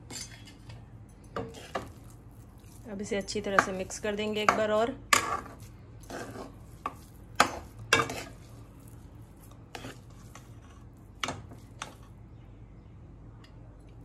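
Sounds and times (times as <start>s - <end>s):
spoon stirring thick food: 0.6s - 12.2s.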